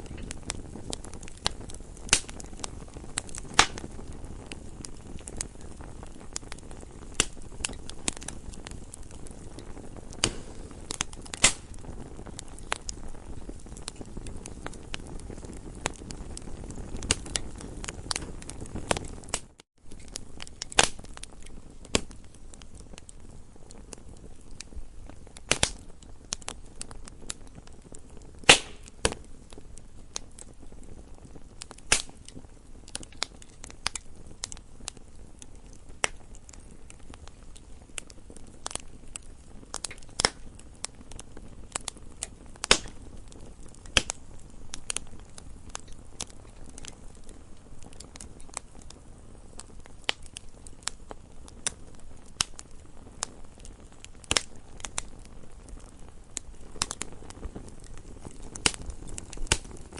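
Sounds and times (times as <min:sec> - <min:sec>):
low steady hiss: 0:00.0 - 0:59.9
wood fire crackling: 0:00.0 - 0:59.9.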